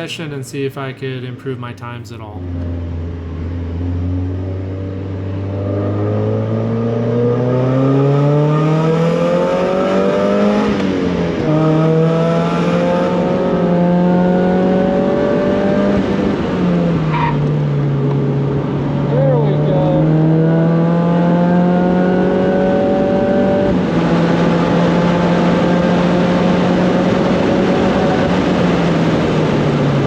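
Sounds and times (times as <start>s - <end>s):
car engine accelerating hard: 2.4s - 30.0s.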